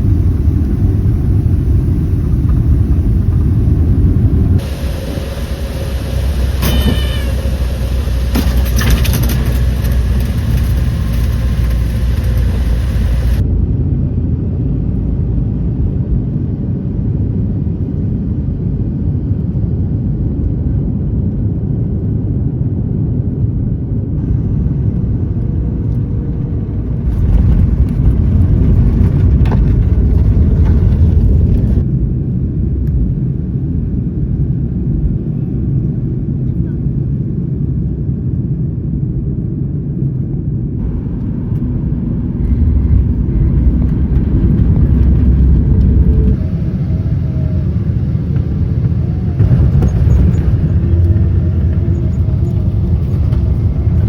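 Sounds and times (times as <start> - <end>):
airliner cabin roar: 0.0 - 54.0
propeller plane engine drone: 0.0 - 54.0.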